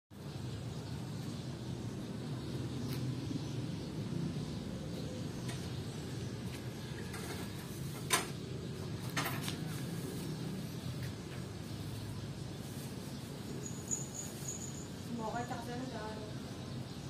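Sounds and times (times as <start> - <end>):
low outdoor hum: 0.1 - 17.0.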